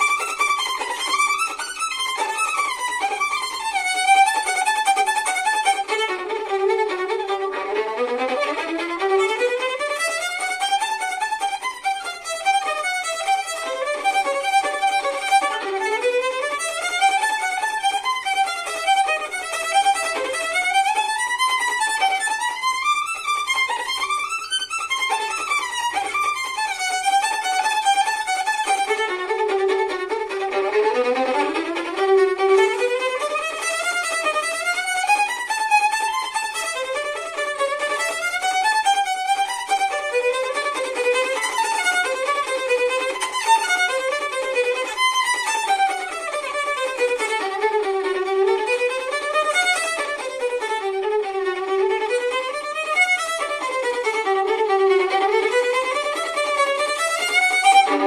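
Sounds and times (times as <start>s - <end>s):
solo violin fast passage: 0.0s - 58.0s.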